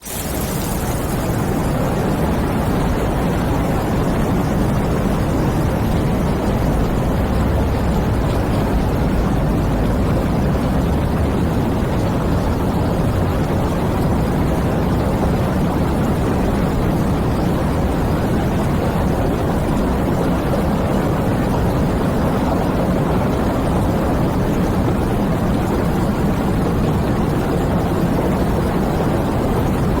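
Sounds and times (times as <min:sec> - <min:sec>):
heavy wind-driven rain: 0:00.0 - 0:30.0.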